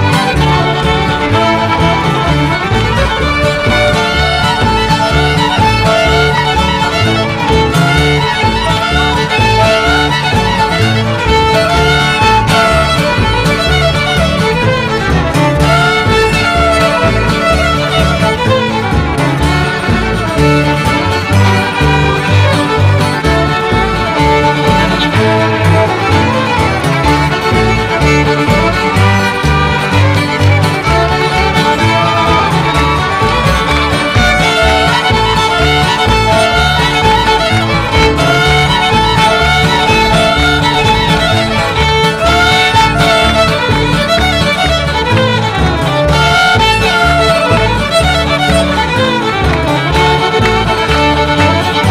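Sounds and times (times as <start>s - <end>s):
acoustic guitar: 0.0s - 51.9s
fiddles playing a tune: 0.0s - 51.9s
upright bass: 0.0s - 51.9s.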